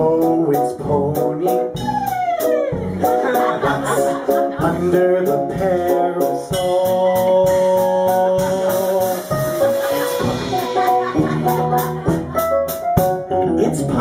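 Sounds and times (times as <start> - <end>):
held keyboard chords: 0.0 - 14.0
live band playing pop music: 0.0 - 14.0
steady drum beat: 0.0 - 14.0.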